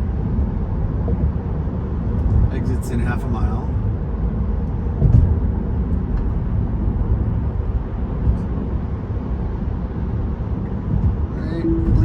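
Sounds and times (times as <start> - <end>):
road and tyre rumble: 0.0 - 12.0.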